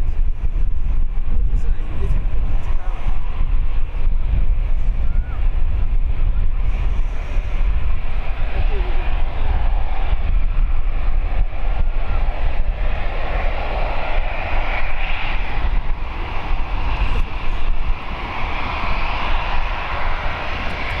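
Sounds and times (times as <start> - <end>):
jet engine rumble and hiss: 0.0 - 21.0.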